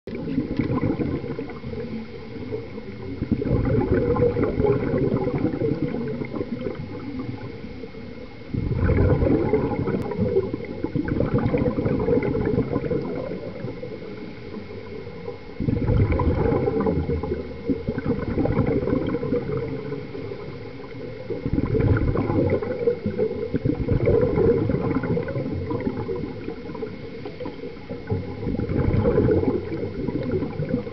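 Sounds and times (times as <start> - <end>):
scuba regulator exhaust bubbles: 0.1 - 30.9.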